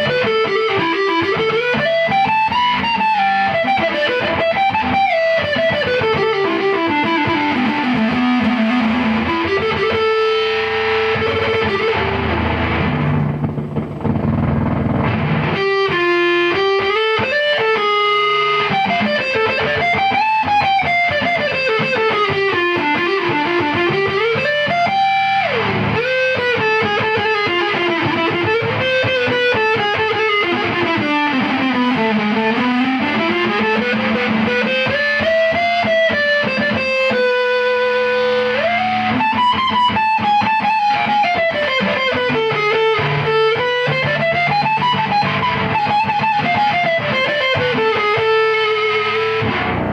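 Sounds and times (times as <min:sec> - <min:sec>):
distorted electric guitar lead: 0:00.0 - 0:49.9.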